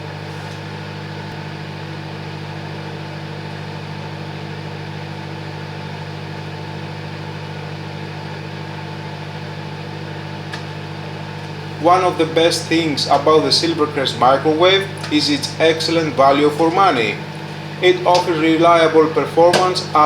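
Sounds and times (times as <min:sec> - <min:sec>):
microwave oven humming: 0:00.0 - 0:20.0
fan noise: 0:02.0 - 0:20.0.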